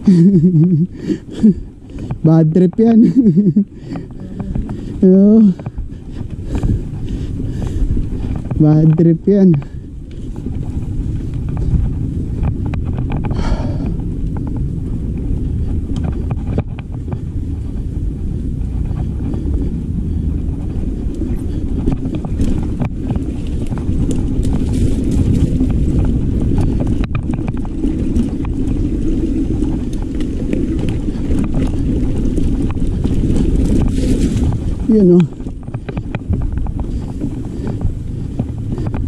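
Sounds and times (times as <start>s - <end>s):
bike knocks and rattles: 0.0s - 39.0s
wind buffeting microphone: 0.0s - 39.0s.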